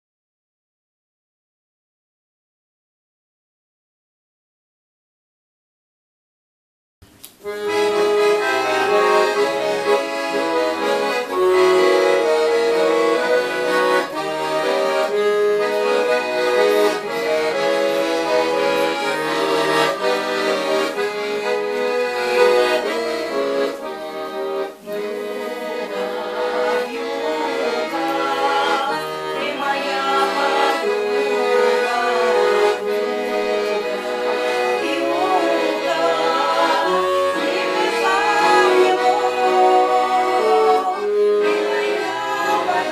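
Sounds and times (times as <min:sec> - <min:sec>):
accordion melody: 0:07.1 - 0:42.9.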